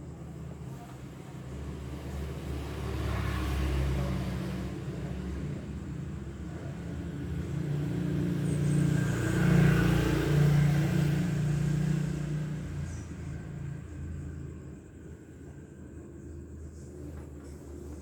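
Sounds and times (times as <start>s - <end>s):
vehicle engine passing by: 0.3s - 15.3s.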